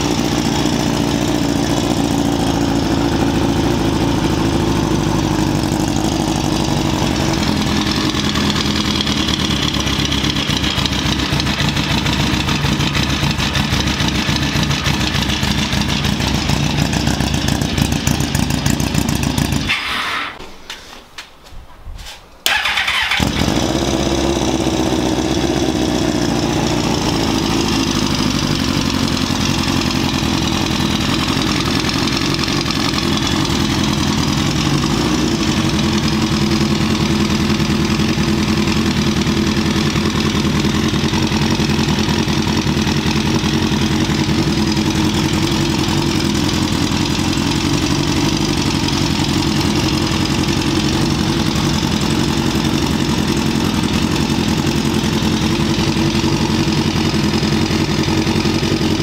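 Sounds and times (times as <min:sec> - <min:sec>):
motorcycle engine idling: 0:00.0 - 0:19.8, 0:22.5 - 0:59.0.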